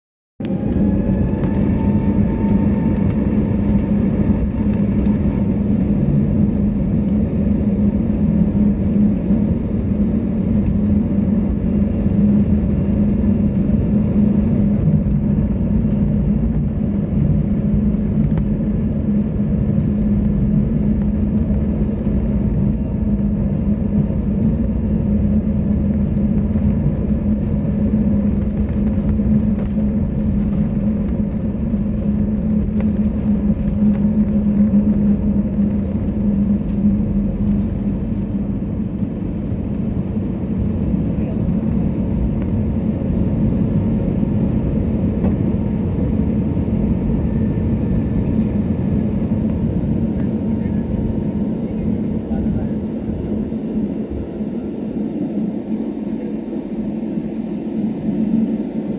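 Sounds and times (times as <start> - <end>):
faint whine: 0.4 - 58.9
jet engines rumbling: 0.4 - 58.9.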